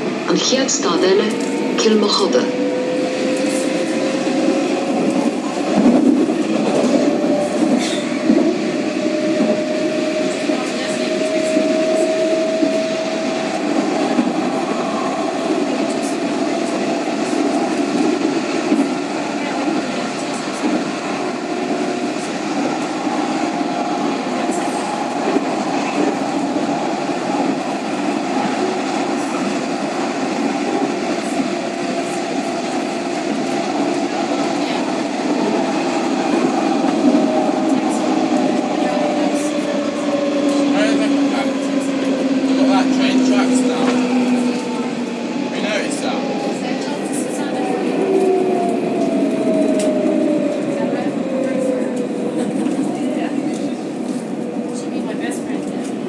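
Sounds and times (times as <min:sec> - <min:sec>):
tram wheels rumbling on track: 0:00.0 - 0:56.0.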